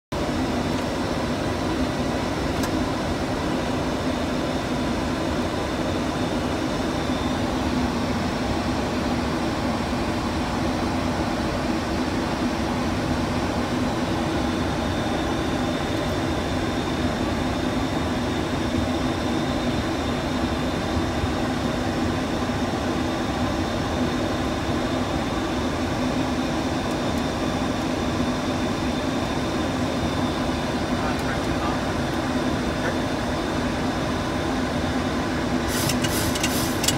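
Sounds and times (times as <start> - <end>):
air rushing around cockpit: 0.2 - 36.9.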